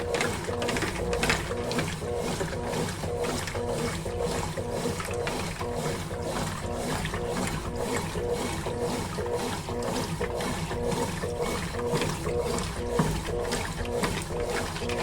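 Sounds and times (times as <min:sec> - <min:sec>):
washing machine motor whining: 0:00.0 - 0:15.0
water and clothes sloshing: 0:00.0 - 0:15.0.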